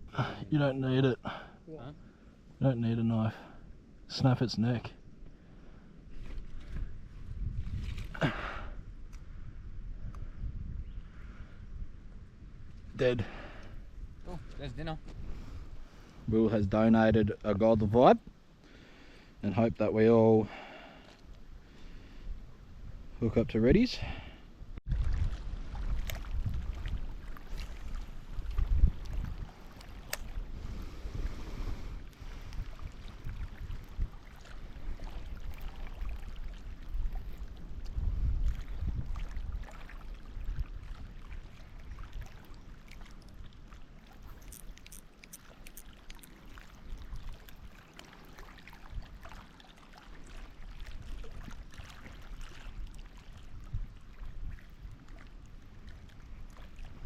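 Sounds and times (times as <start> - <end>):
wind rumbling on microphone: 6.1 - 17.9, 21.4 - 49.5, 50.1 - 57.0.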